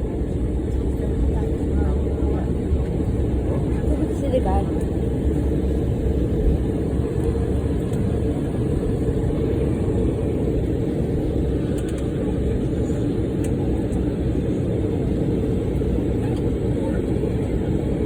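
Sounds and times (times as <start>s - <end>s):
airliner engines idling: 0.0s - 18.0s
cabin airflow: 0.0s - 18.0s.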